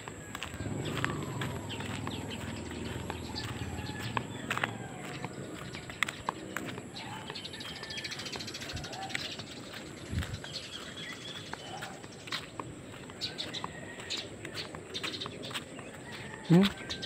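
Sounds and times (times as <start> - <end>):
birds chirping: 0.0 - 17.0
footsteps on concrete path: 0.0 - 17.0.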